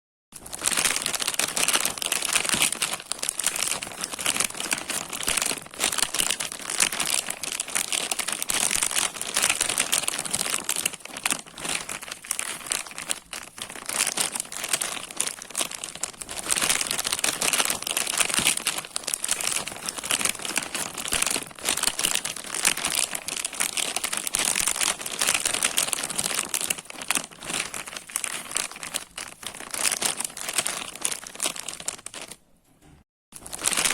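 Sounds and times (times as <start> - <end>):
plastic bag crinkling: 0.4 - 32.4, 33.4 - 33.9.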